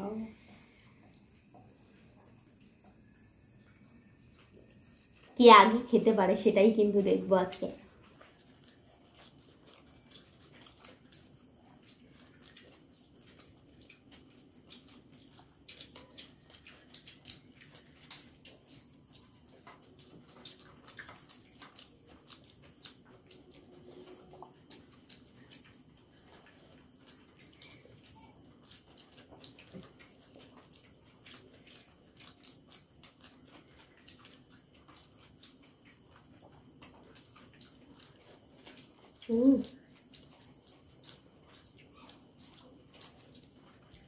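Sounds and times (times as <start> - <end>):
people chewing and lip-smacking: 7.8 - 44.0.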